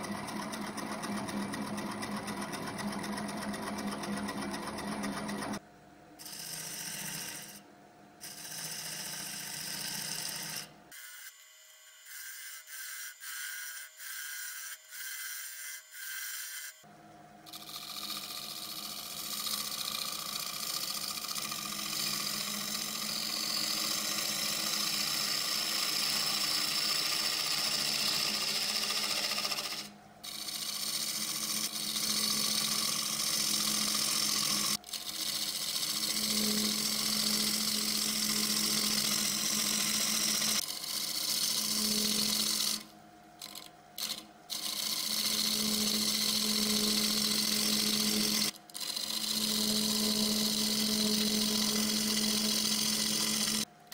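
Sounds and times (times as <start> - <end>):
lathe tool scraping wood: 0.0 - 5.6, 6.2 - 7.6, 17.5 - 53.7.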